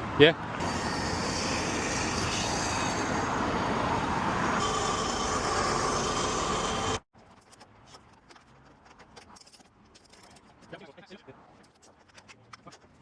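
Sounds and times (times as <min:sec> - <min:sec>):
vehicle noise: 0:00.0 - 0:13.0.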